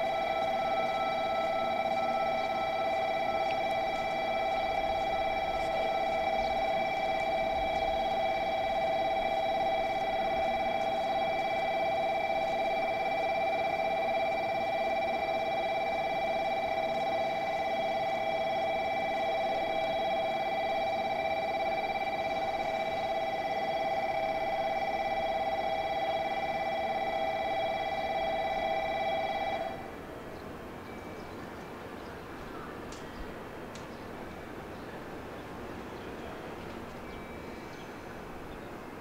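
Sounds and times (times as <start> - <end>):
electric warning bell ringing: 0.0 - 30.1, 30.8 - 31.6, 34.2 - 39.0.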